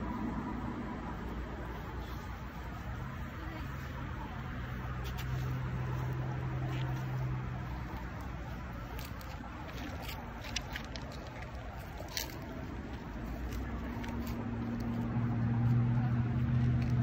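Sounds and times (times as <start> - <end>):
low engine hum: 0.0 - 17.0
footsteps on gravel and boards: 2.0 - 17.0.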